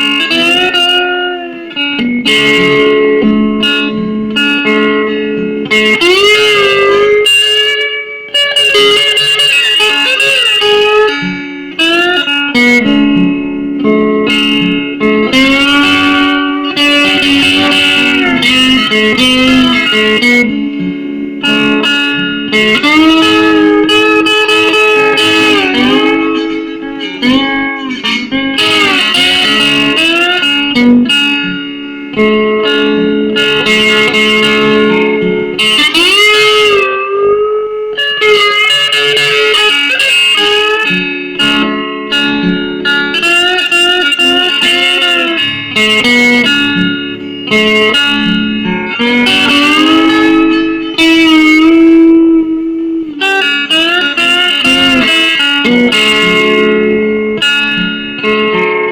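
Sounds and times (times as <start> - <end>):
slide guitar playing: 0.0 - 58.9.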